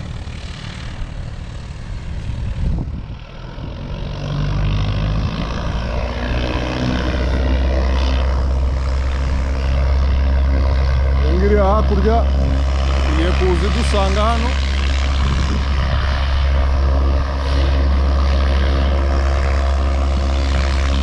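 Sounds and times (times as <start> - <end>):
propeller aircraft engine running: 0.0 - 21.0.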